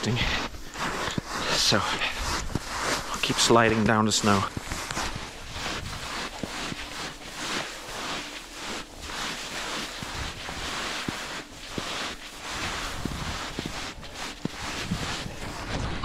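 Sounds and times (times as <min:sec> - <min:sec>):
boots crunching in snow: 0:00.0 - 0:16.0.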